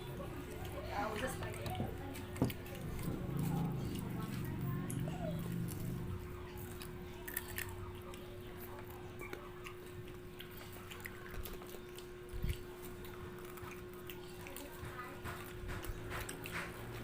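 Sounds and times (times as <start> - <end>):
chewing and mouth clicks: 0.0 - 17.0
steady low hum: 0.0 - 17.0.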